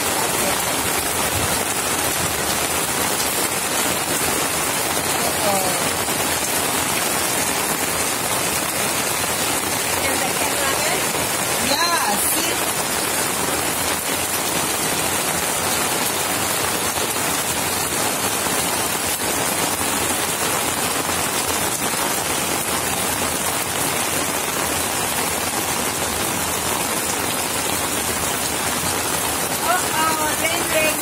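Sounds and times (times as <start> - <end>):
heavy rain on concrete roof: 0.0 - 31.0.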